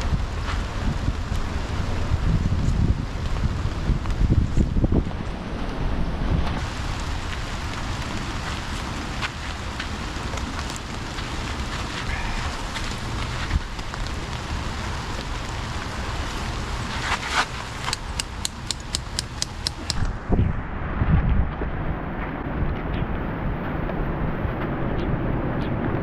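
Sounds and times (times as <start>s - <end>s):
steady rain: 0.0s - 21.0s
wind rumbling on microphone: 0.0s - 26.0s.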